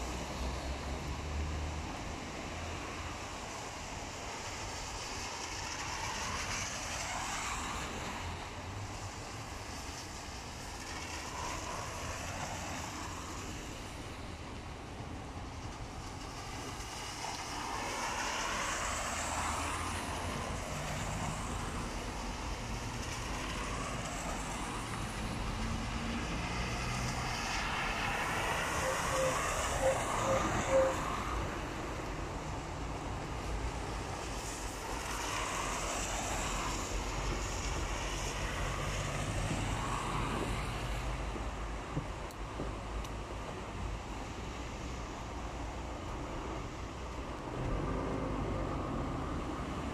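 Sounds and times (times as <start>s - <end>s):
rain: 0.0s - 49.9s
tyres hissing through water: 0.0s - 49.9s
wind: 0.0s - 49.9s.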